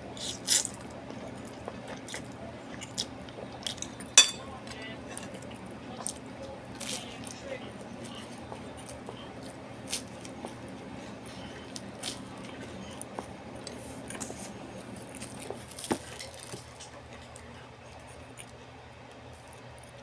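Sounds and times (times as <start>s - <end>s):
faint low hum: 0.0s - 20.0s
eating clicks and wet squishes: 0.2s - 20.0s.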